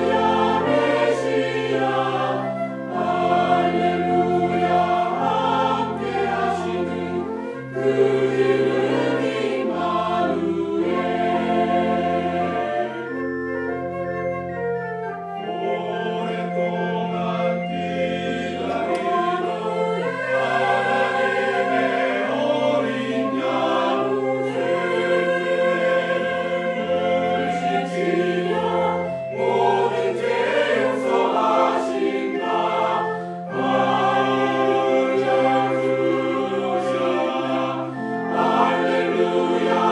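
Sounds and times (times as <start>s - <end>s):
church choir singing a hymn: 0.0s - 14.0s, 15.3s - 39.9s.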